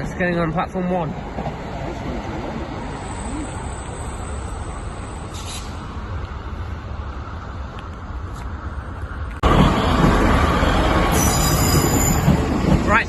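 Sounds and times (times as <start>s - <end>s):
diesel train engine rumble: 0.0s - 13.0s.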